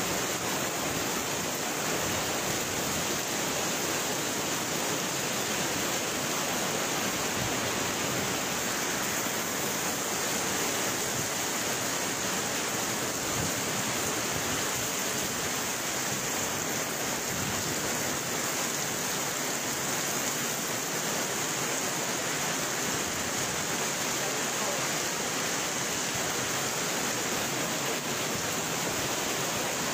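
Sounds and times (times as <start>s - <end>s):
heavy rain pouring: 0.0s - 29.9s.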